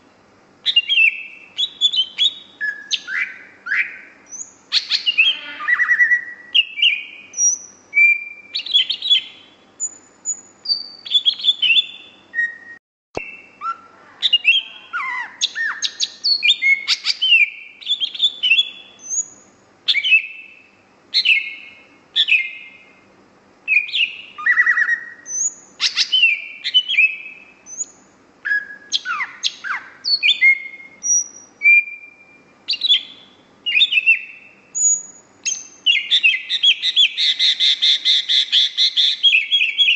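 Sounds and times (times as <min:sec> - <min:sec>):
bird singing whistles and chirps: 0:00.6 - 0:22.9, 0:23.6 - 0:39.9.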